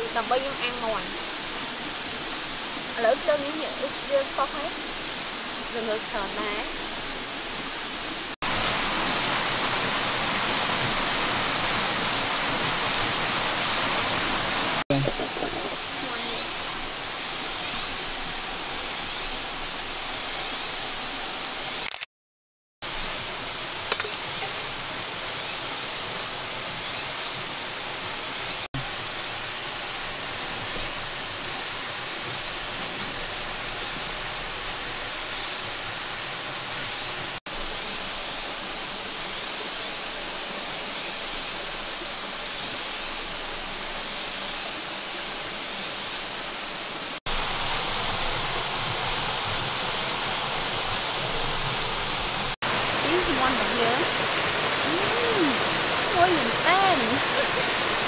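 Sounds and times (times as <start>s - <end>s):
stream rushing over rocks: 0.0s - 21.8s, 22.9s - 58.0s.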